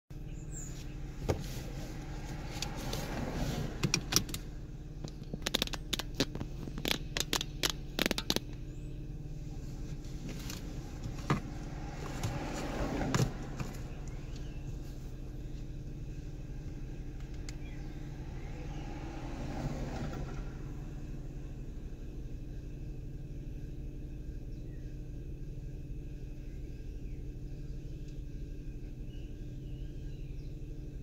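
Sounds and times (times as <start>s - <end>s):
car driving rumble: 0.1s - 31.0s.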